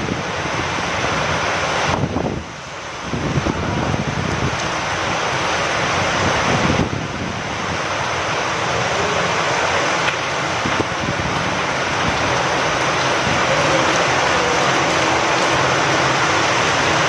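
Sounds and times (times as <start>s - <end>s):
heavy rain with wind: 0.0s - 17.0s.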